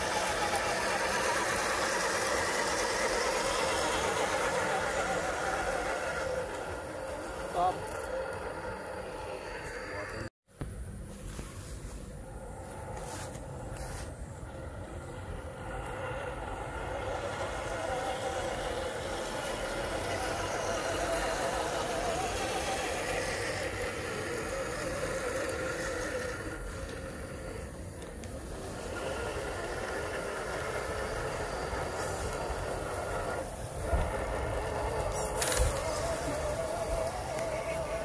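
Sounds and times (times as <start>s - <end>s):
rc truck motors whining: 0.0s - 10.3s, 12.1s - 38.0s.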